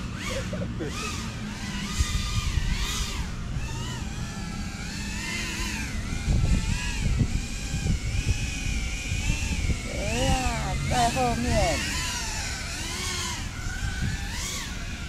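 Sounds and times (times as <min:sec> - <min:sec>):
drone motors whining: 0:00.0 - 0:15.0
low rumbling: 0:00.0 - 0:15.0.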